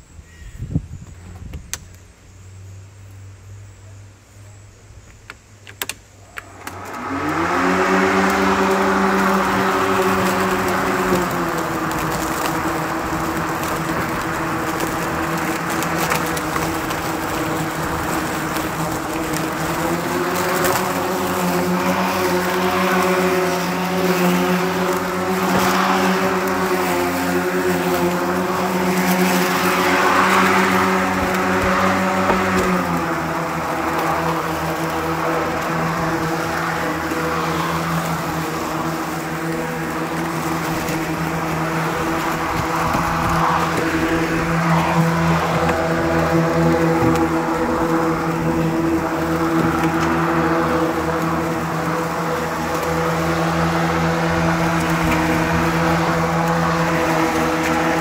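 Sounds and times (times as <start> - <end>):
electric lawn mower whining: 5.7 - 58.0.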